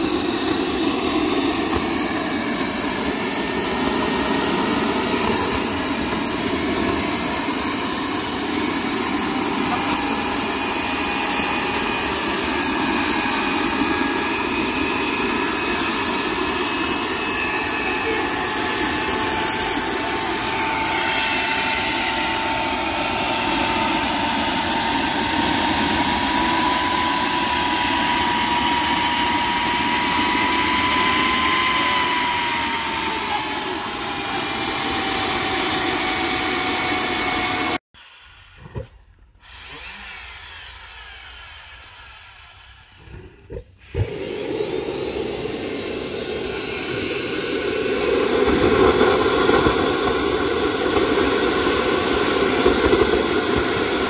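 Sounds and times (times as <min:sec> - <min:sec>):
jet engine roaring with whine: 0:00.0 - 0:37.8, 0:40.0 - 0:54.0.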